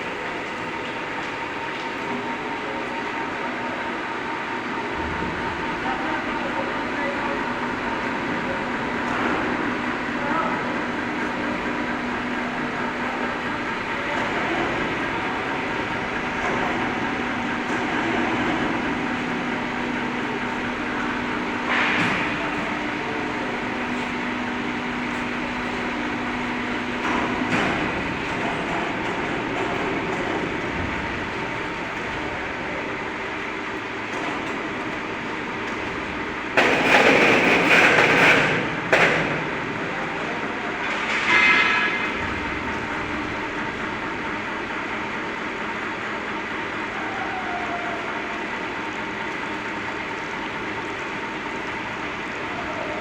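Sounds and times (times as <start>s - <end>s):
foundry machinery rumbling: 0.0s - 53.0s
furnace drone: 0.0s - 53.0s.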